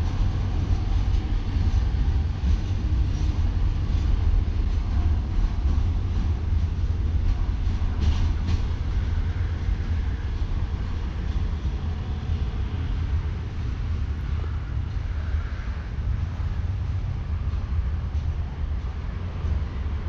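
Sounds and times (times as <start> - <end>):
locomotive deep rumble: 0.0 - 20.0.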